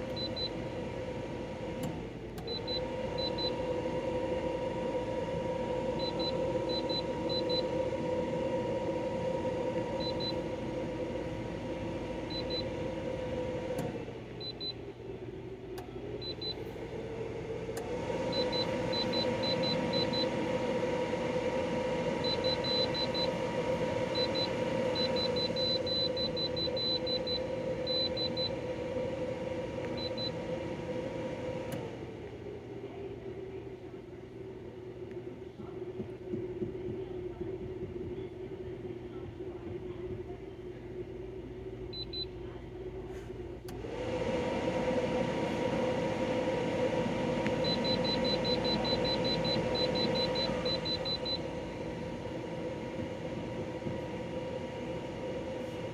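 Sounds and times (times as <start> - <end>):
air conditioner droning hum: 0.0 - 55.9.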